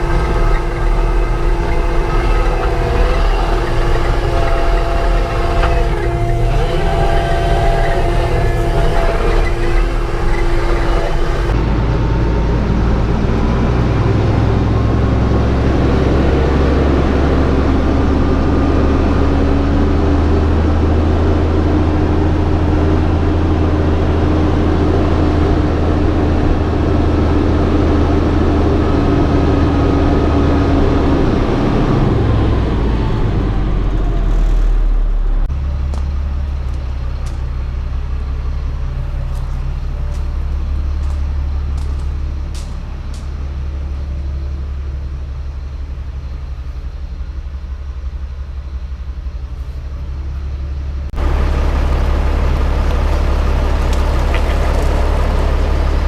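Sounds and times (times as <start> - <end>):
pickup truck engine: 0.0 - 56.0
road rumble: 0.0 - 56.0.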